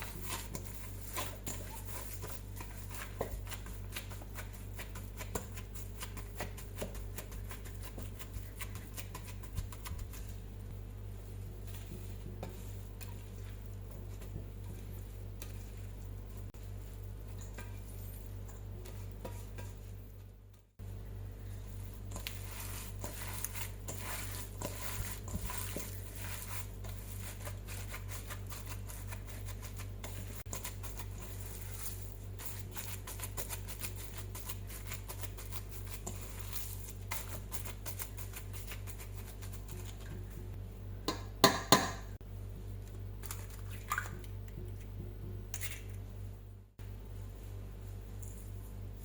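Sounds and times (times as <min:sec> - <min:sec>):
wet squishes of mixing meat: 0:00.0 - 0:17.9, 0:18.6 - 0:40.6, 0:42.8 - 0:44.5
steady low hum: 0:00.0 - 0:49.0.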